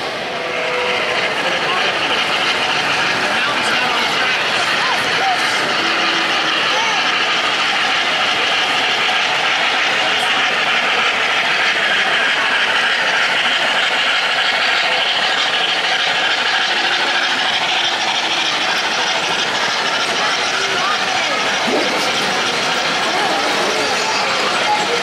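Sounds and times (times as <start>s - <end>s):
model train wheels rolling: 0.0s - 25.0s.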